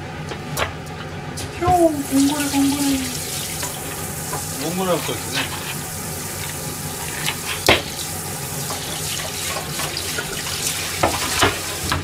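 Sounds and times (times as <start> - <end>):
tap water running into a sink: 1.7 - 12.0.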